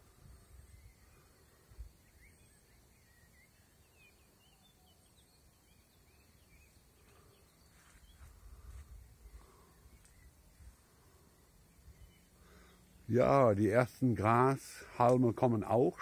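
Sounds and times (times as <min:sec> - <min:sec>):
faint bird chirps: 0:00.0 - 0:14.5.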